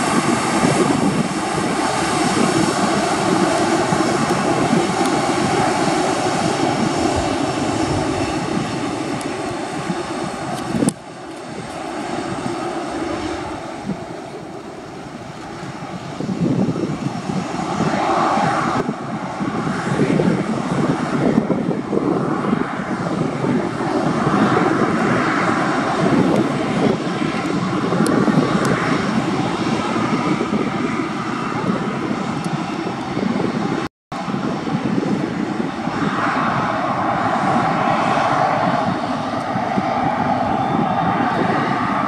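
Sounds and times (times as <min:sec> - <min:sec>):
jet engines of taxiing airliner: 0:00.0 - 0:42.0.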